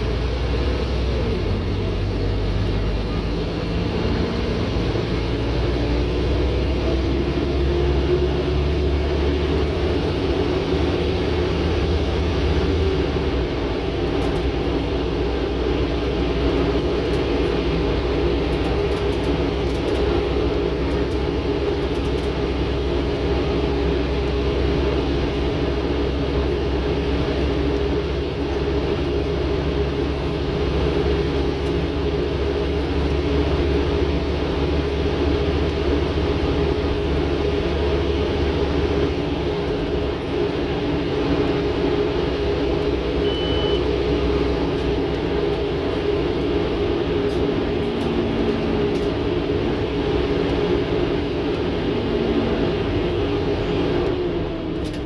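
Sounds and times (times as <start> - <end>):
bus diesel engine droning: 0.0 - 55.0
road and body noise: 0.0 - 55.0.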